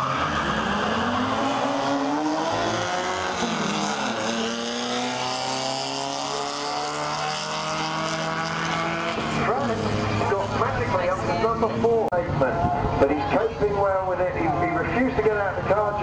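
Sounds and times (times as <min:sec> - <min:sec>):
car engine at full throttle: 0:00.0 - 0:16.0.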